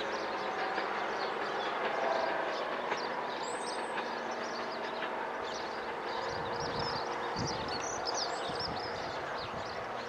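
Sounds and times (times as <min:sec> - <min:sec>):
birds chirping: 0:00.0 - 0:10.0
distant train hum: 0:00.0 - 0:10.0.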